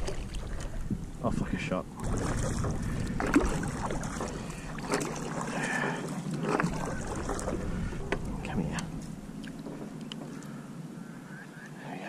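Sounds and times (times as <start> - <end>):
water lapping and splashing: 0.0 - 11.0
wind buffeting microphone: 0.0 - 11.3.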